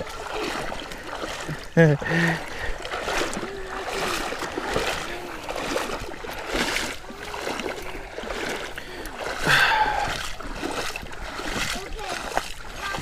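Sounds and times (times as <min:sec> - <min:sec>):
river current rushing: 0:00.0 - 0:13.0
water swishing around legs: 0:00.0 - 0:13.0.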